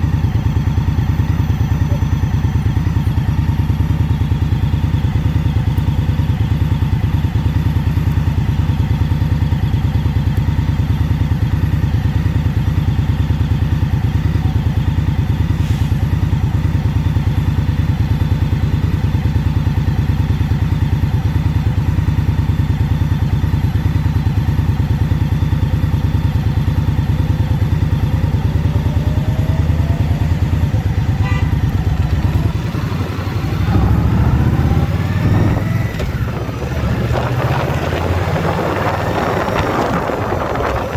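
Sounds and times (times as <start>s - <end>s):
motorcycle engine running and revving: 0.0s - 40.9s.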